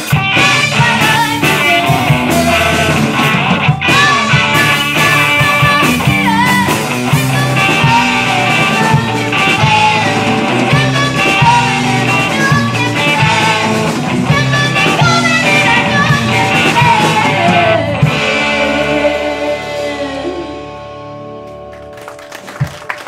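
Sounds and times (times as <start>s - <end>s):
live rock band playing: 0.0s - 23.0s
woman singing: 0.2s - 3.1s, 3.8s - 21.0s.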